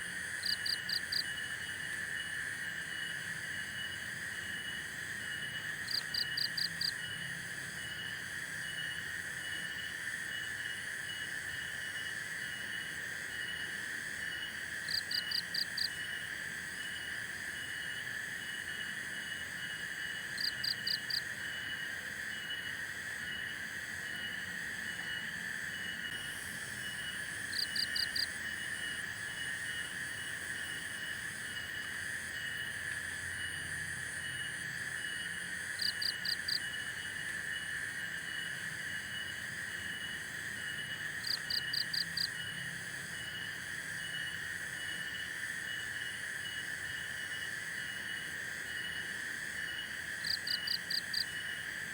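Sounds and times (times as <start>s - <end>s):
crickets and insects chirping: 0.0s - 51.9s.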